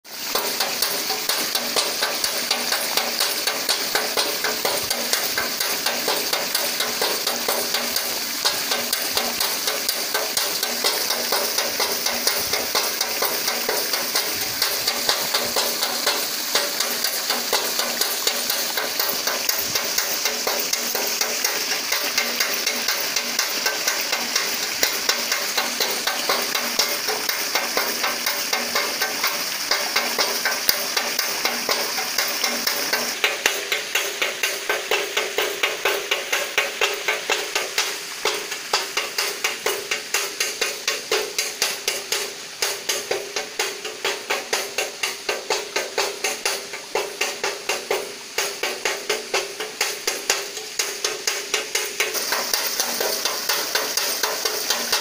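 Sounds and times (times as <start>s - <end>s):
water splashing onto a paddle wheel: 0.0s - 55.0s
rhythmic knocking on tin: 0.1s - 55.0s.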